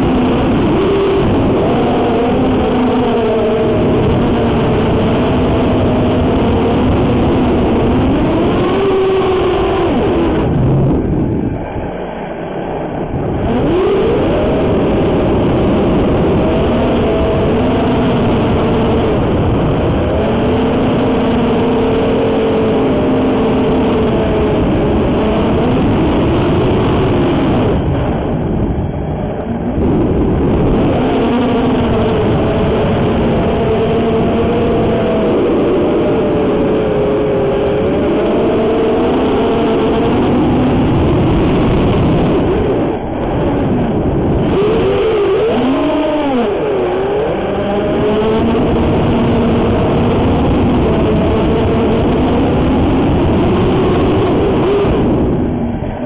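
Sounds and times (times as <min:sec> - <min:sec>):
quadcopter motors whining: 0:00.0 - 0:52.2.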